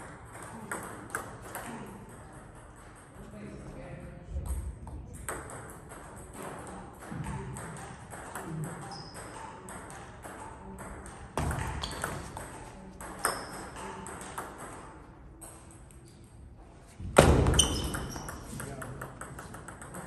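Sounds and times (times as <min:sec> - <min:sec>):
table tennis balls clicking: 0:00.0 - 0:03.3, 0:05.0 - 0:16.4, 0:17.4 - 0:20.0.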